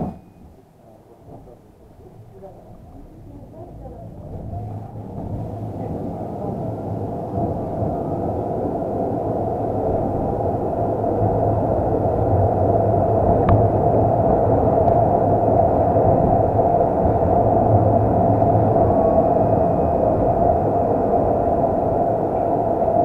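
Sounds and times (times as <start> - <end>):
tram rolling rumble: 0.0 - 23.0.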